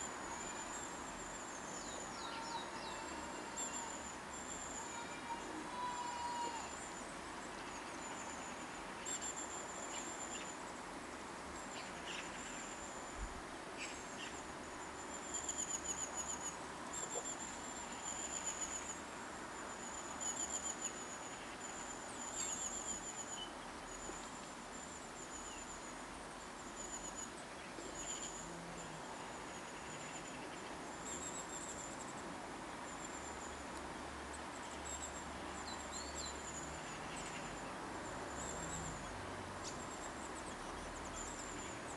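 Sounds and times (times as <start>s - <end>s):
outdoor hiss: 0.0s - 41.9s.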